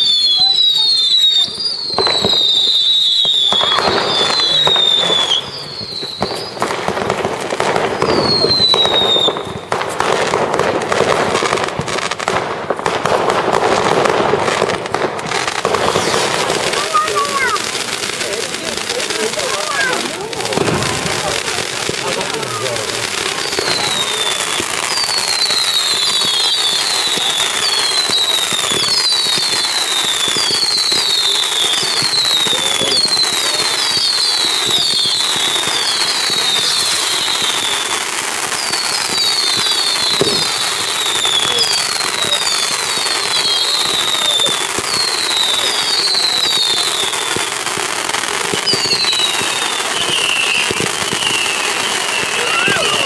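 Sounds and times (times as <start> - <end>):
fireworks crackling: 0.0 - 53.0
fireworks whistling: 0.0 - 53.0.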